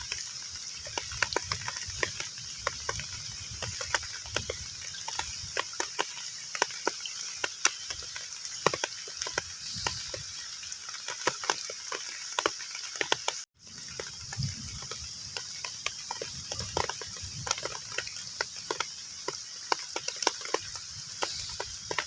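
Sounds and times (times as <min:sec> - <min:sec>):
heavy rain on water: 0:00.0 - 0:22.0.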